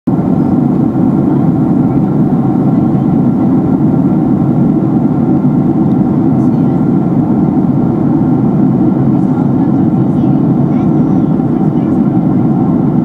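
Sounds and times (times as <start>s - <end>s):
airplane cabin engine drone: 0.1s - 13.0s.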